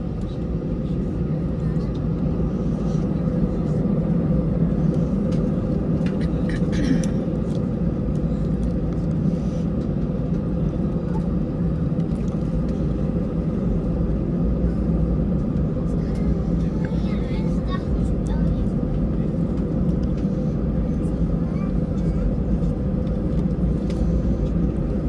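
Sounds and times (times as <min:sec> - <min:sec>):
constant hum: 0:00.0 - 0:25.0
jet engine cabin drone: 0:00.0 - 0:25.0.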